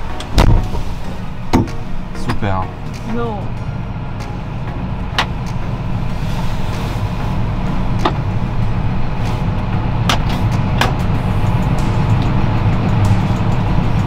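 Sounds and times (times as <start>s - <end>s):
tractor diesel engine drone: 0.0s - 14.0s.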